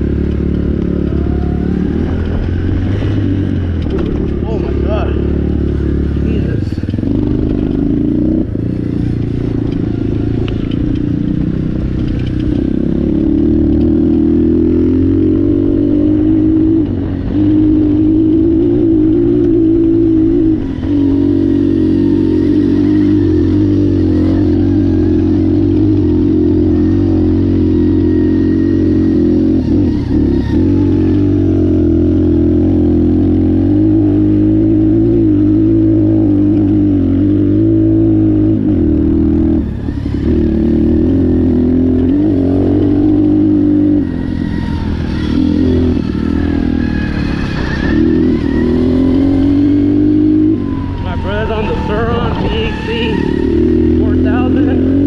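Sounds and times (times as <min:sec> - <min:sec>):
dirt bike engine under throttle: 0:00.0 - 0:55.0.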